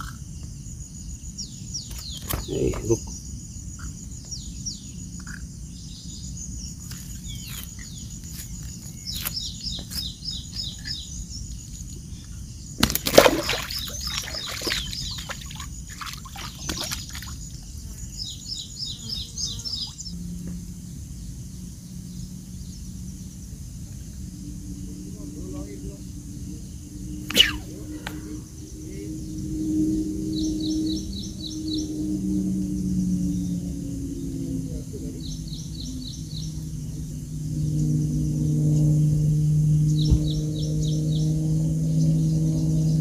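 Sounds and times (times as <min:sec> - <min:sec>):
small birds chirping: 0:00.0 - 0:38.9, 0:39.8 - 0:43.0
low outdoor background noise: 0:00.0 - 0:43.0.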